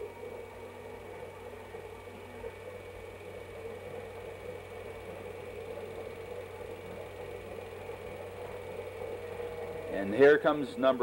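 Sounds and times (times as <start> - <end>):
mechanical hum and whir: 0.0 - 11.0.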